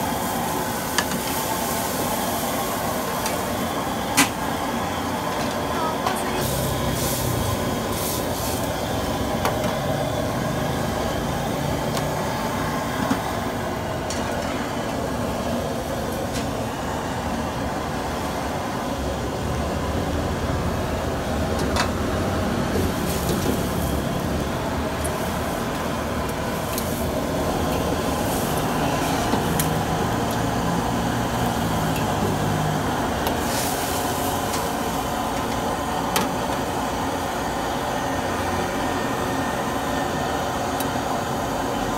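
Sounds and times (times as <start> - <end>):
cooking noise from wok: 0.0 - 41.9
gas burner roaring: 0.0 - 41.9.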